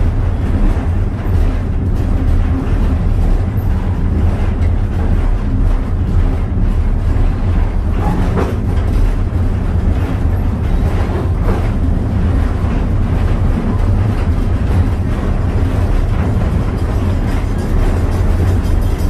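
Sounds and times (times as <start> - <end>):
steam train rumbling: 0.0 - 19.0.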